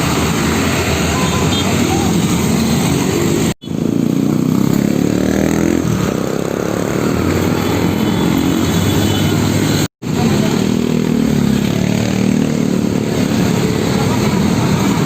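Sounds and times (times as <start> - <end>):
road vehicle engines running: 0.0 - 15.0.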